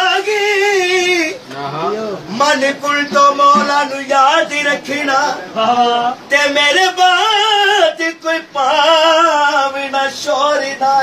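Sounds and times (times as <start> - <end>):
man singing through a microphone: 0.0 - 11.0.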